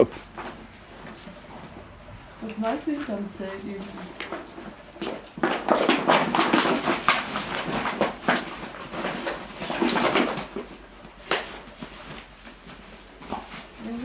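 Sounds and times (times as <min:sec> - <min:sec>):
dogs growling and scuffling: 0:00.1 - 0:14.0.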